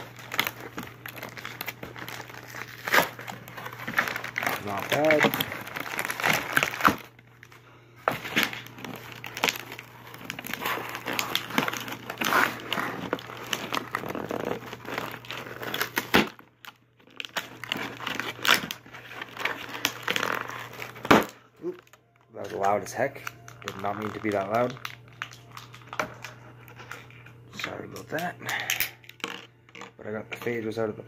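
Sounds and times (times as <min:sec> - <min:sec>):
packaging being torn open: 0:00.0 - 0:29.9.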